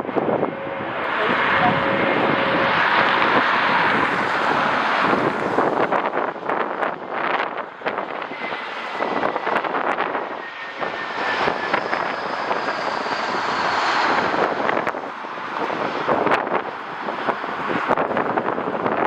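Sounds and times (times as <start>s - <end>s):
jet engines passing with whine: 0.0s - 19.0s
wind buffeting microphone: 0.0s - 19.0s.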